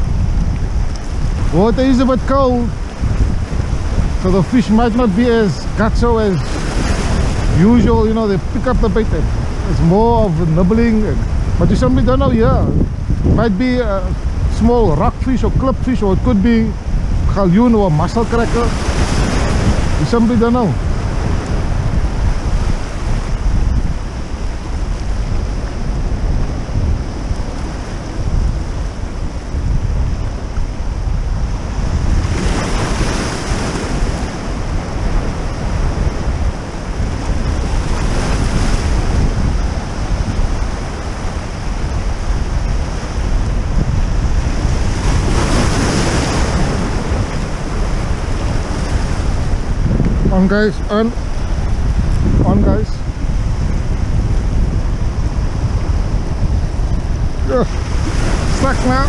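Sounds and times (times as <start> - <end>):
surf washing over rocks: 0.0 - 59.0
wind rumbling on microphone: 0.0 - 59.0.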